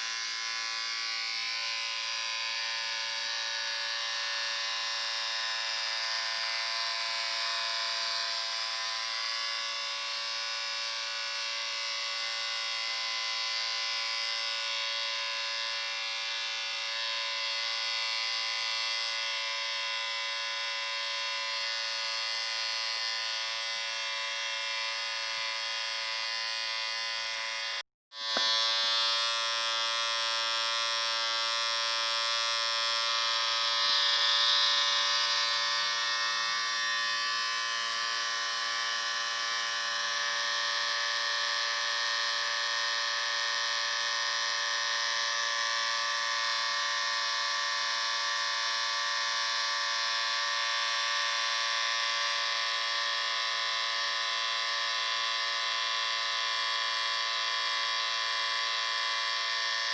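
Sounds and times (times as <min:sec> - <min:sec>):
electric shaver buzzing: 0:00.0 - 0:59.9.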